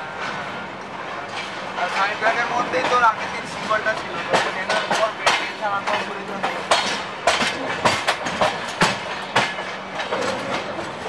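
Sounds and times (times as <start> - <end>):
train wheels clattering: 0.0 - 11.0.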